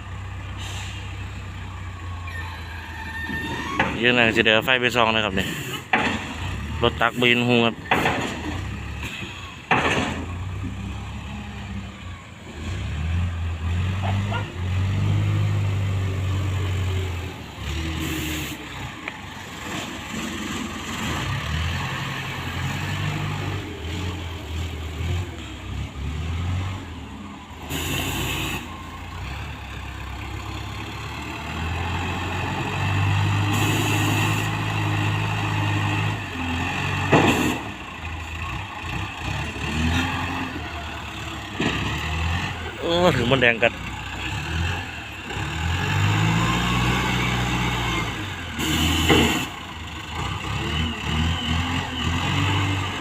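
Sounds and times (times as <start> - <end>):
loader engine revving: 0.0 - 53.0.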